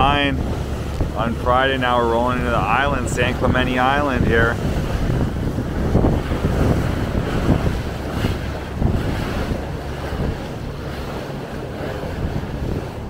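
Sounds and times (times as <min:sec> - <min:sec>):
low engine hum: 0:00.0 - 0:13.0
water rushing along hull: 0:00.0 - 0:13.0
wind buffeting microphone: 0:00.0 - 0:13.0.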